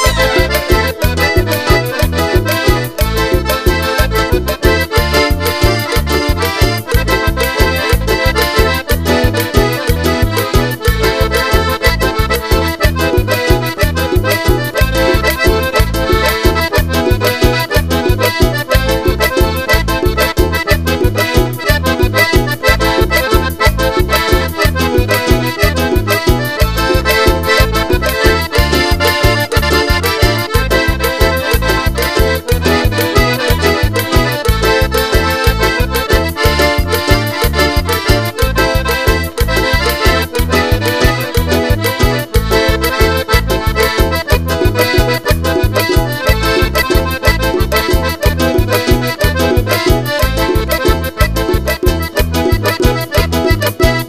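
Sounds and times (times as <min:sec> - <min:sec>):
accordion playing lively melody: 0:00.0 - 0:54.0
pulsing bass beat: 0:00.0 - 0:54.0.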